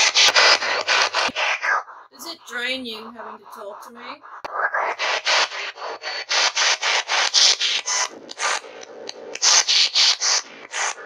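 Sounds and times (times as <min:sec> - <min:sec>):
chopped bursts of hissing static: 0:00.0 - 0:01.6, 0:02.2 - 0:11.0.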